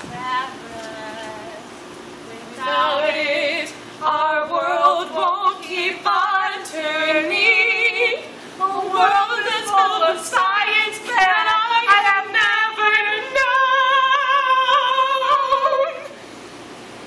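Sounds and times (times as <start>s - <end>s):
young women singing a cappella: 0.0s - 16.2s.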